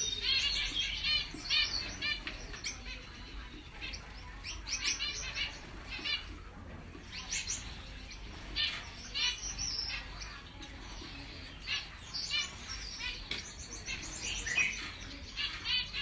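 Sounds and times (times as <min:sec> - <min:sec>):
finches chirping: 0:00.0 - 0:16.0.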